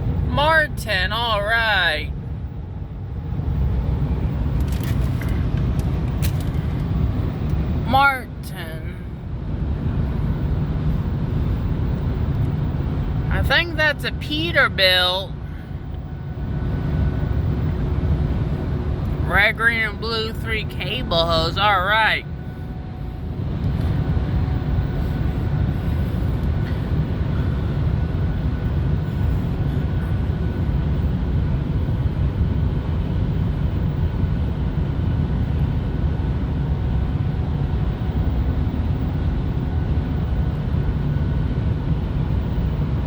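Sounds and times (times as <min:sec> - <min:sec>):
low vehicle rumble: 0:00.0 - 0:43.0.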